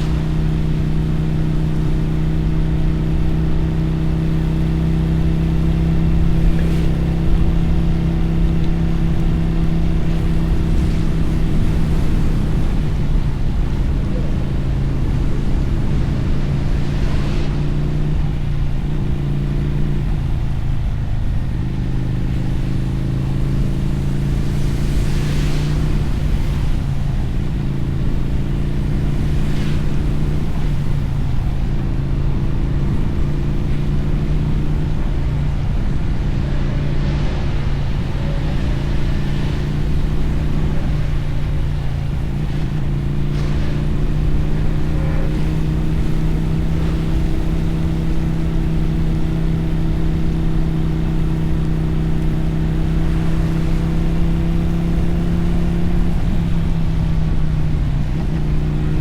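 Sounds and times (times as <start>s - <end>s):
motorcycle engine cruising: 0.0s - 59.0s
tyre spray on wet road: 0.0s - 59.0s.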